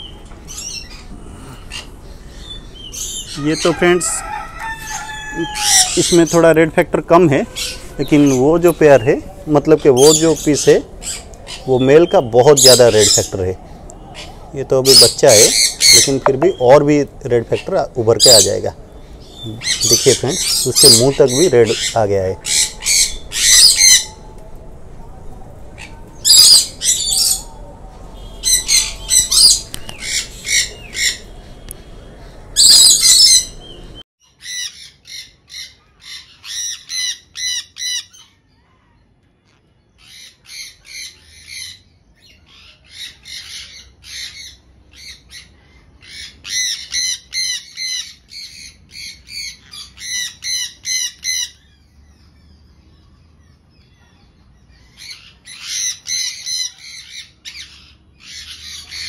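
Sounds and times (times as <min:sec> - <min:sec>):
conures squawking: 0:00.0 - 0:13.5, 0:14.1 - 0:16.9, 0:17.5 - 0:24.3, 0:25.8 - 0:27.5, 0:28.3 - 0:38.3, 0:42.5 - 0:51.8, 0:54.9 - 0:59.0.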